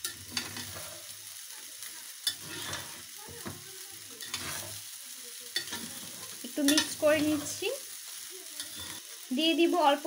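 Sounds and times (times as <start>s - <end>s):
spatula scraping and clacking on pan: 0.0s - 1.2s, 1.8s - 7.9s, 8.5s - 9.2s
spatula stirring rice in steel pan: 0.0s - 9.3s
light steady sizzle: 0.0s - 10.0s.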